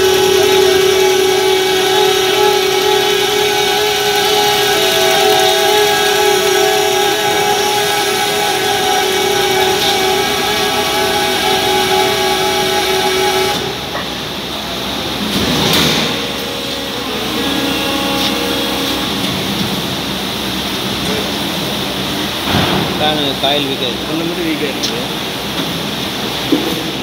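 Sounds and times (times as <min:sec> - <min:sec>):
low machine hum: 0:00.0 - 0:27.0
machine whine: 0:00.0 - 0:27.0.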